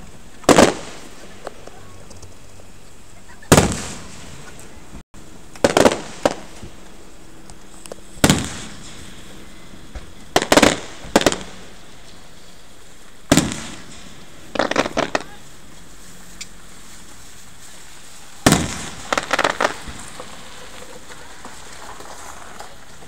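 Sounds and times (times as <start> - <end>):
crackling firework pops: 0.0 - 4.8, 5.5 - 23.0
fireworks booming: 0.0 - 17.2, 17.8 - 23.0.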